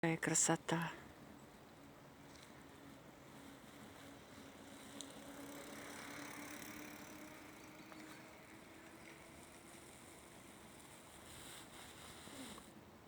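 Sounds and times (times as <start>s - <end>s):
distant vehicle hum: 0.3s - 11.8s.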